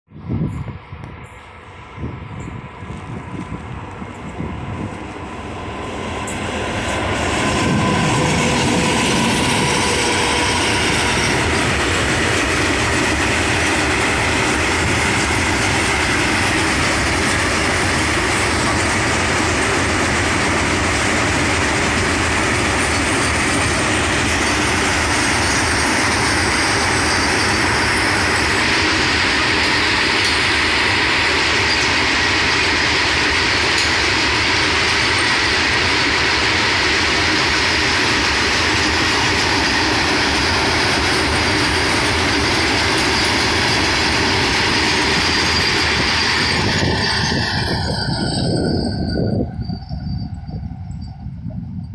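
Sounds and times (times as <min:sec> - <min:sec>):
train rumbling on rails: 0:00.1 - 0:51.9.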